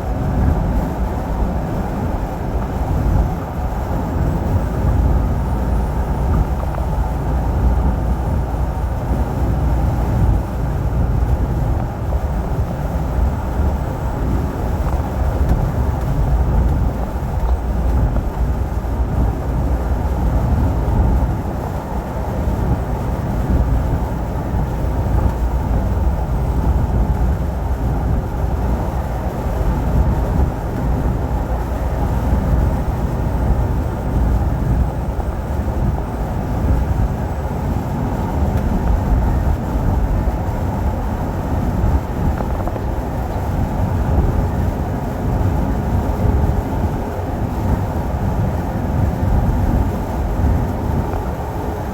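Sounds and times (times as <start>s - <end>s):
truck engine and road rumble: 0.0s - 51.9s.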